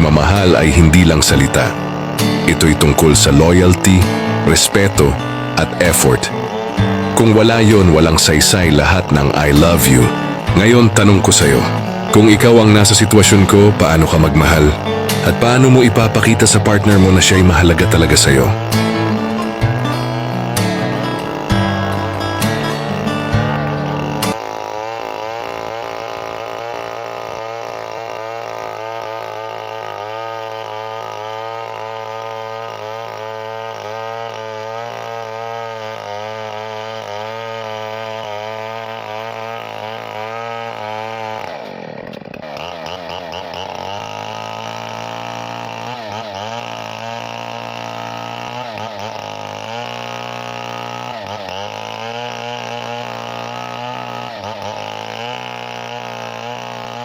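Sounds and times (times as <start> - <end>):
chainsaw engine running: 0.0 - 57.0.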